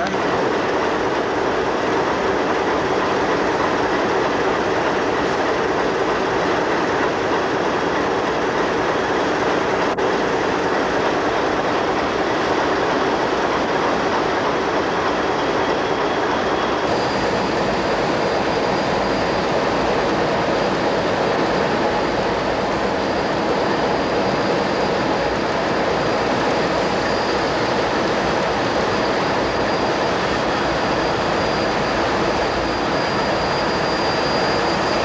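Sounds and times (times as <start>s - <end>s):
locomotive engines running: 0.0s - 35.0s.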